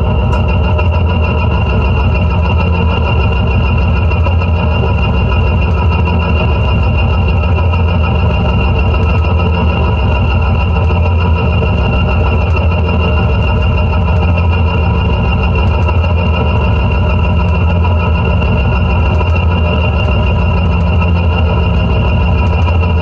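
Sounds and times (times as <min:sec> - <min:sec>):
layered sustained tones: 0:00.0 - 0:23.0
low hum drone: 0:00.0 - 0:23.0.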